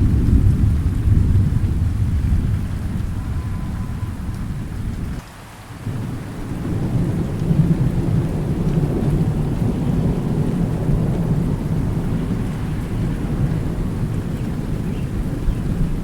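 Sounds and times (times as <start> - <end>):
rolling thunder: 0.0 - 5.2, 5.8 - 16.0
steady rain: 0.0 - 16.0.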